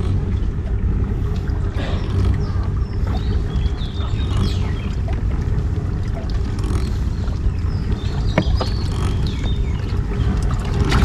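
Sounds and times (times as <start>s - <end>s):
water moving past boat: 0.0s - 11.0s.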